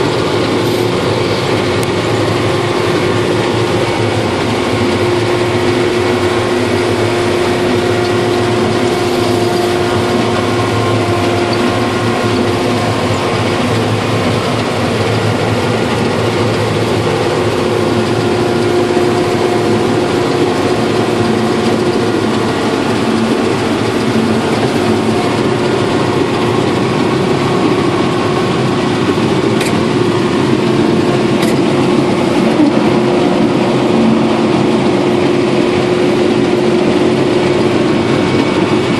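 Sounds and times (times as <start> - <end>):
harvester engine droning: 0.0 - 38.9.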